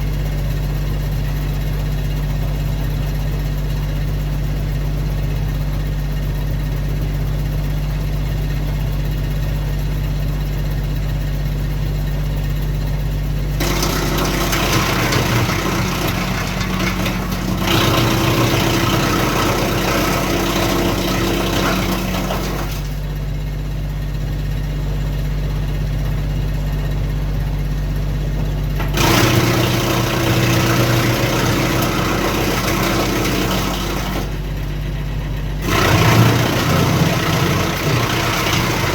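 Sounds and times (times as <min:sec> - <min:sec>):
tractor diesel engine hum: 0:00.0 - 0:38.9
wood chipper grinding branches: 0:00.0 - 0:38.9.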